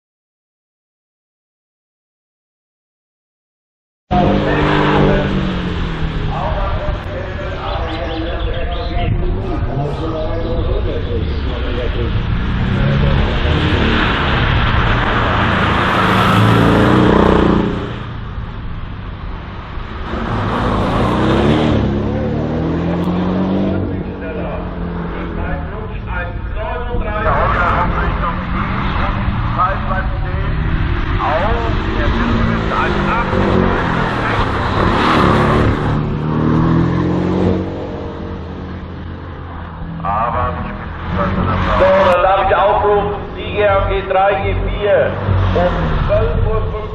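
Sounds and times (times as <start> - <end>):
race car engine accelerating: 4.1 - 18.5, 19.2 - 26.4, 27.2 - 46.9.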